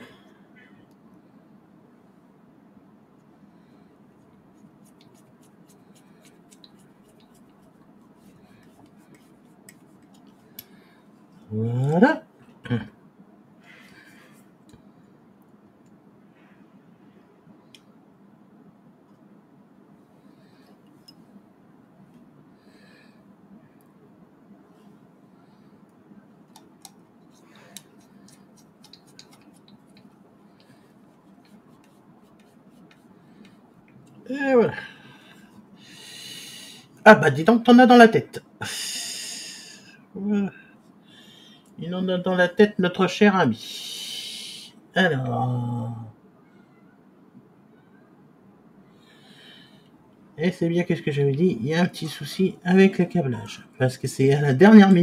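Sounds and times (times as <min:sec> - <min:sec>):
low room noise: 0:00.0 - 0:55.0.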